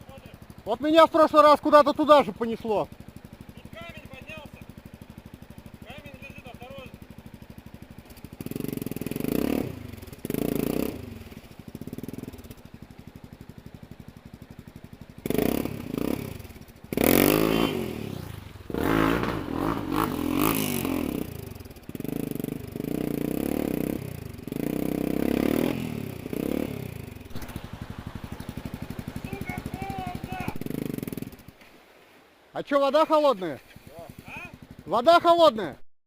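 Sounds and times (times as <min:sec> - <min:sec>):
motorcycle engine idling and revving: 0:00.0 - 0:31.8, 0:32.9 - 0:35.8.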